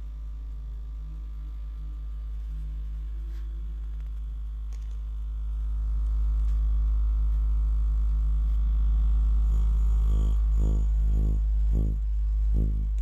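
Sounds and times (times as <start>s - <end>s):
engine low drone: 0.0s - 13.0s.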